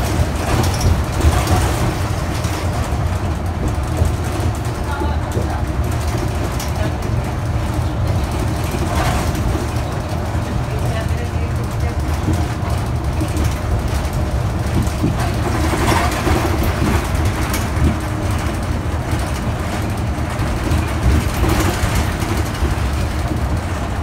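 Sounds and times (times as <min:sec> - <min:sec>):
bus cabin rattling: 0:00.0 - 0:24.0
bus engine rumble: 0:00.0 - 0:24.0.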